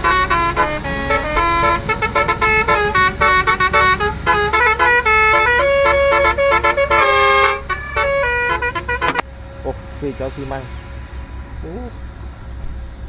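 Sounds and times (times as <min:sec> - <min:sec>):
truck engine rumble: 0:00.0 - 0:13.0
truck musical horn tune: 0:00.0 - 0:13.0.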